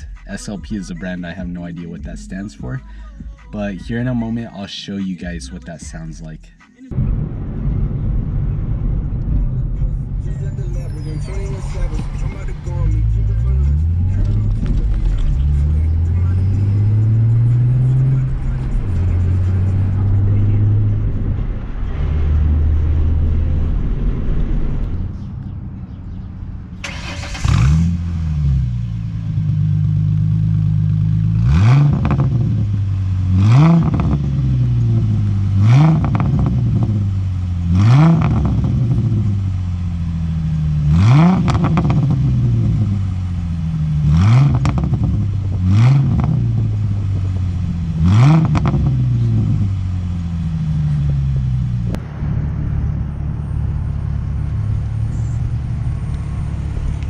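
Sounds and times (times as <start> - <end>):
car engine idling: 0.0 - 57.0
car engine revving: 6.9 - 57.0.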